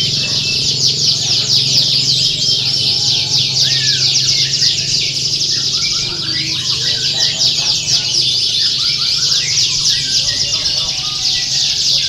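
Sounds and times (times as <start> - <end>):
canaries singing: 0.0 - 12.0.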